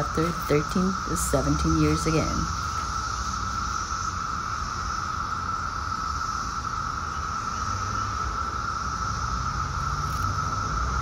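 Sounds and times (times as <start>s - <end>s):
cicadas droning: 0.0s - 11.0s.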